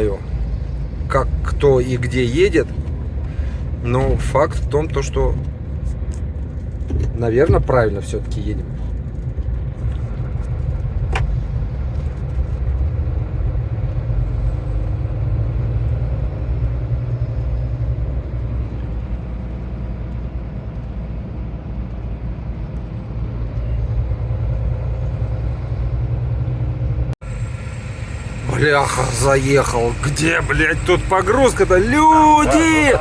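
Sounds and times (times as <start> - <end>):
truck diesel engine rumble: 0.0 - 33.0.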